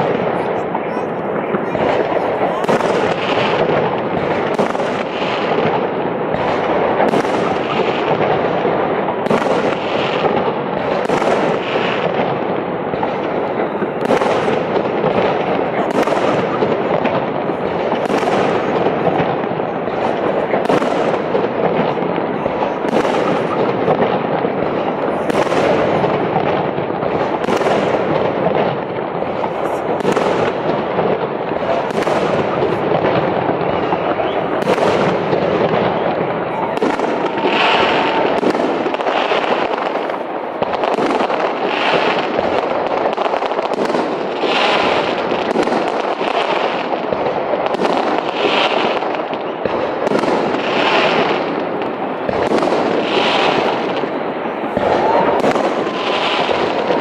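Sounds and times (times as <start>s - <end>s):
fireworks bangs: 0.0s - 57.0s
steady noisy din: 0.0s - 57.0s.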